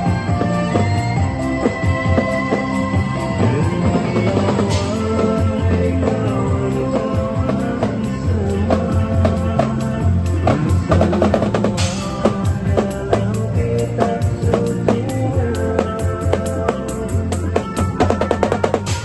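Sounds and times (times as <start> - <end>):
drum kit beat: 0.0 - 19.0
upbeat music with bass: 0.0 - 19.0.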